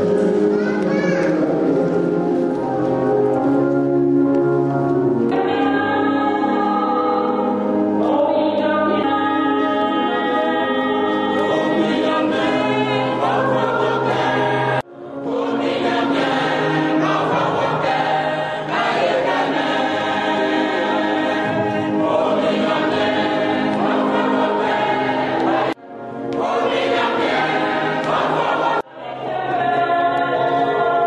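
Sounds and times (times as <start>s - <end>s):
choir singing a hymn: 5.0s - 31.0s.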